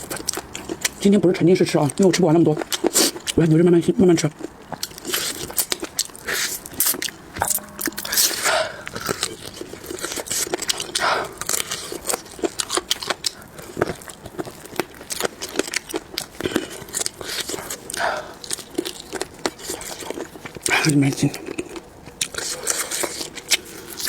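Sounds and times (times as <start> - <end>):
crunchy chewing: 0.0 - 1.1, 1.8 - 3.5, 4.2 - 7.4, 9.0 - 24.0.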